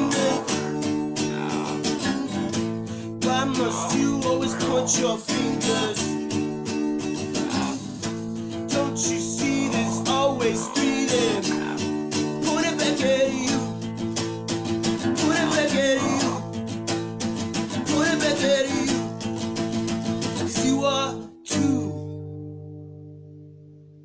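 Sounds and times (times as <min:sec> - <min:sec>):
wordless voice singing: 0:00.0 - 0:14.2, 0:15.0 - 0:16.7, 0:17.6 - 0:19.3, 0:20.4 - 0:22.2
acoustic guitar strumming: 0:00.0 - 0:24.0.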